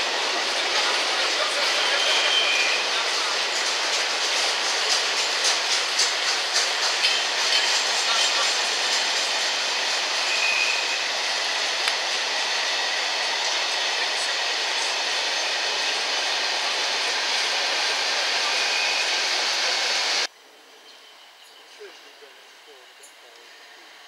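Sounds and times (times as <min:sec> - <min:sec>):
freight train wheels rushing on rail: 0:00.0 - 0:20.3.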